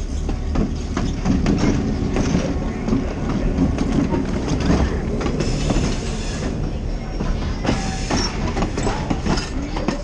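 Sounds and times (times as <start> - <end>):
train rolling past: 0.0 - 10.0
wheels clicking over rail joints: 0.0 - 10.0.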